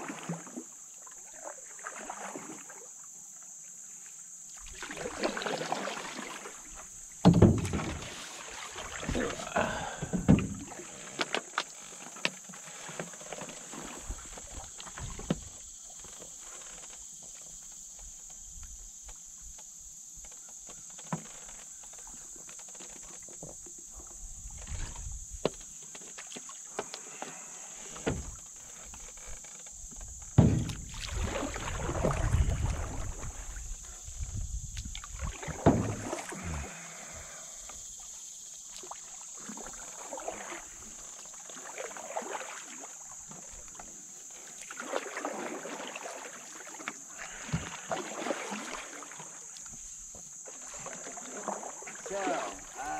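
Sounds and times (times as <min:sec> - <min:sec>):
splashing and rustling: 0:00.0 - 0:03.0, 0:04.5 - 0:18.8, 0:21.0 - 0:52.9
paddle strokes on water: 0:00.0 - 0:52.9
steady high-pitched hiss: 0:00.0 - 0:52.9.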